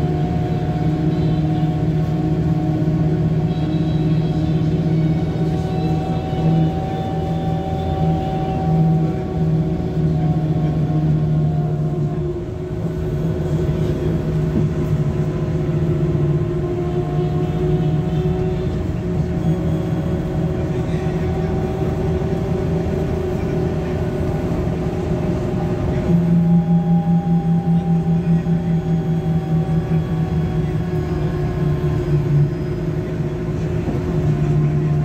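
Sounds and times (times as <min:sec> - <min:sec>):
bus engine and drivetrain hum: 0:00.0 - 0:35.0.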